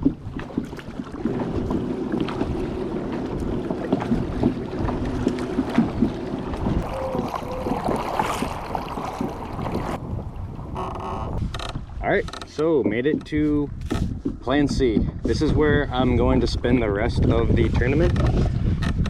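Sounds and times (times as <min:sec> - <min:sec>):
water and kayak hull noise: 0:00.0 - 0:19.0
wind on microphone: 0:00.0 - 0:19.0.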